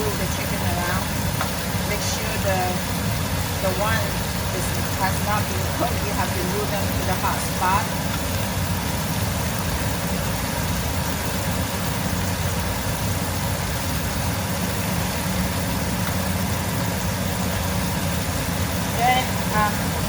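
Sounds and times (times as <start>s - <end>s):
low steady hum: 0.0s - 20.0s
meat sizzling in a frying pan: 0.0s - 20.0s.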